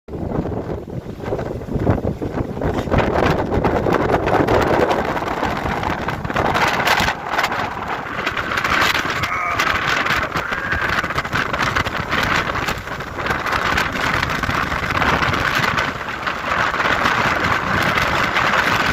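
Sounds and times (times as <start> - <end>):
wind buffeting microphone: 0.1 - 18.9.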